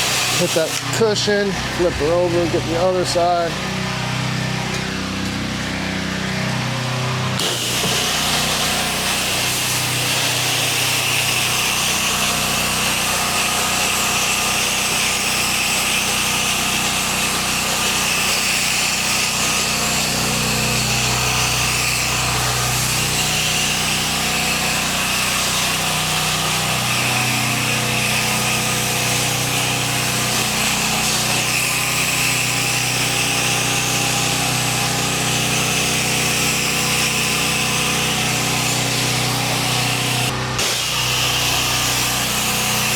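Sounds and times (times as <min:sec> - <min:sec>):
pressure washer water spray: 0:00.0 - 0:03.4, 0:07.4 - 0:42.9
pressure washer motor hum: 0:00.0 - 0:42.9.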